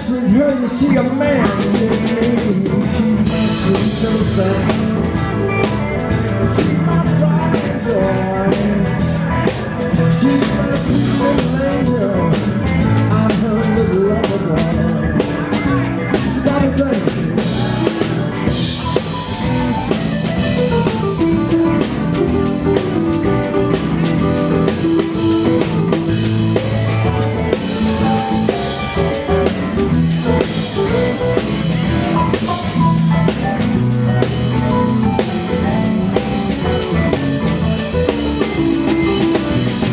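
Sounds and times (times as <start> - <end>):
drum kit: 0.0 - 39.9
electric bass: 0.0 - 39.9
electric guitar: 0.0 - 39.9
keyboards: 0.0 - 39.9.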